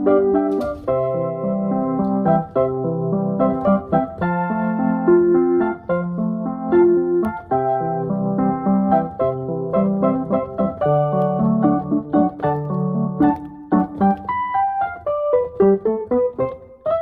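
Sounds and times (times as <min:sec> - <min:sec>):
keyboard chords with melody: 0:00.0 - 0:17.0.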